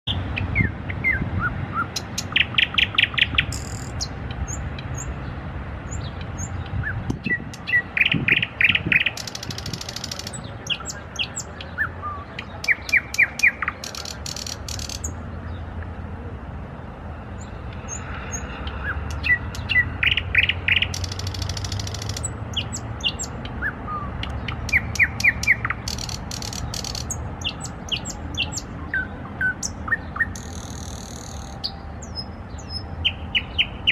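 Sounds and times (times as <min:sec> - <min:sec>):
nightingale singing: 0:00.1 - 0:05.2, 0:05.9 - 0:15.2, 0:17.4 - 0:33.9.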